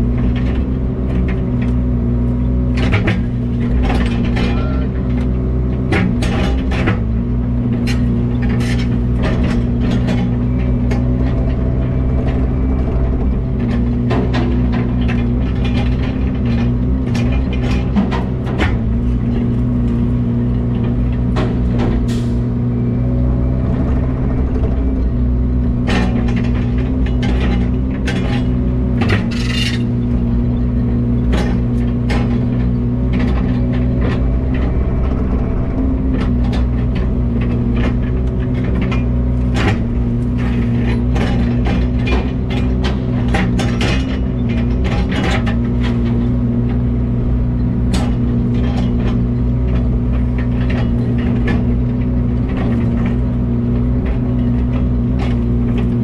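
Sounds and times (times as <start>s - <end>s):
heavy equipment engine running: 0.0s - 56.0s.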